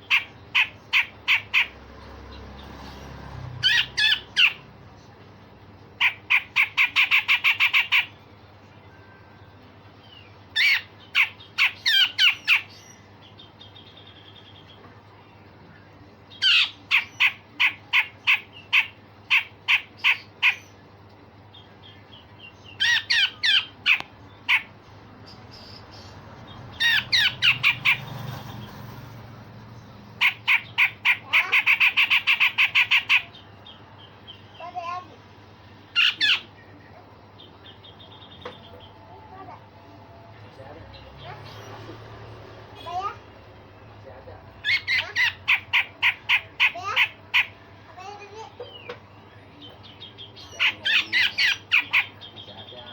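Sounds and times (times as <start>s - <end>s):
bird singing harsh rapid notes: 0.0s - 39.7s, 40.5s - 52.9s.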